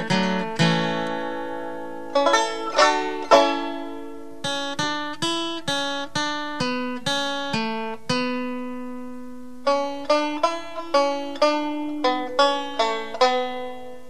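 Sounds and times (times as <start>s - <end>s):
plucked acoustic string instrument: 0.0s - 14.0s.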